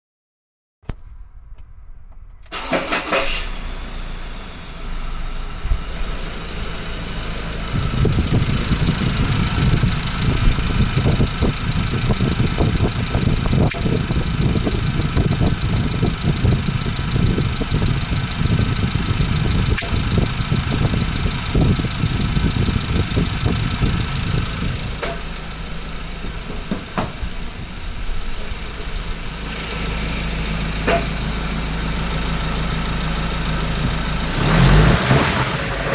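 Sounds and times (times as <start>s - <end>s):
diesel engine running: 2.5s - 35.9s
engine rattling: 2.5s - 35.9s.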